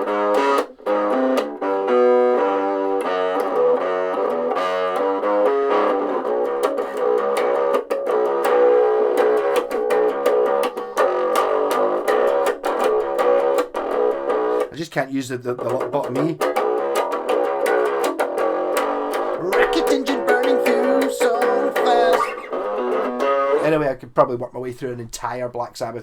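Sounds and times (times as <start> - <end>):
electric bass guitar riff: 0.0 - 14.8, 15.6 - 23.8.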